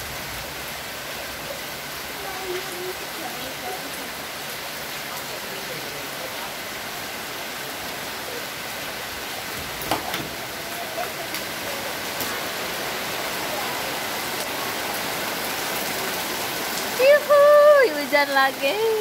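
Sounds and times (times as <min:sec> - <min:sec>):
rain on wet paving: 0:00.0 - 0:19.0.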